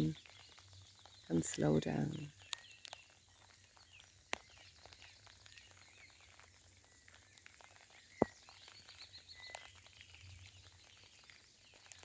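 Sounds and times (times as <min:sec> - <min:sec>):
light rain pattering: 0:00.0 - 0:12.0
songbirds chirping: 0:00.0 - 0:12.0.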